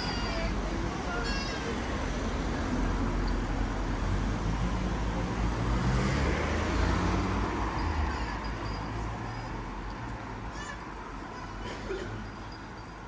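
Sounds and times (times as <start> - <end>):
cars driving past: 0.7 - 13.0.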